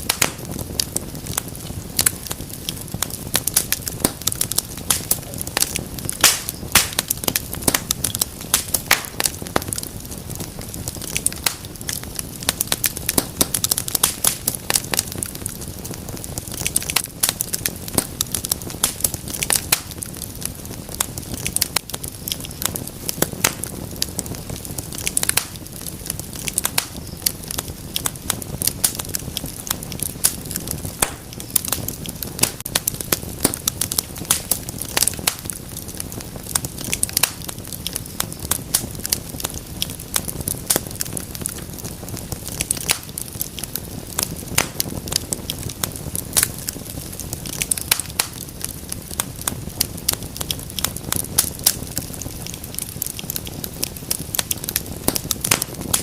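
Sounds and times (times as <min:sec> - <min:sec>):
low rumble of flame: 0:00.0 - 0:56.0
wood fire crackling: 0:00.0 - 0:56.0.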